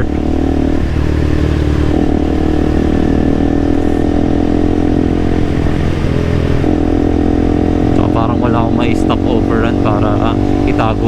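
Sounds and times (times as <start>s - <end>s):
motorcycle engine cruising: 0.0s - 11.0s
wind noise on microphone: 0.0s - 11.0s.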